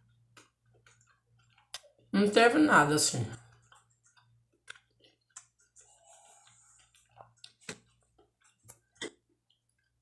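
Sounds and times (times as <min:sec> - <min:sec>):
quiet chewing: 0:00.0 - 0:02.1, 0:03.3 - 0:10.0.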